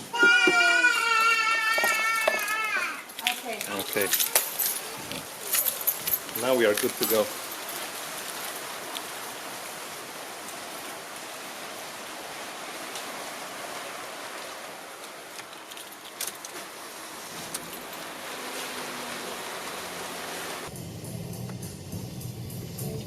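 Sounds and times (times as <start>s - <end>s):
heavy rain falling: 0.0s - 20.8s.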